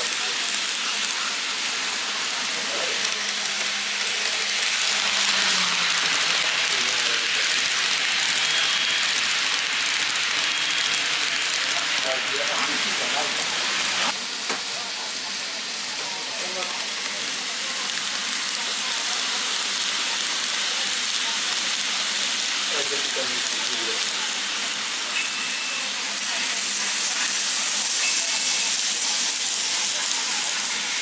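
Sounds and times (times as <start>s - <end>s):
model trains running: 0.0s - 31.0s.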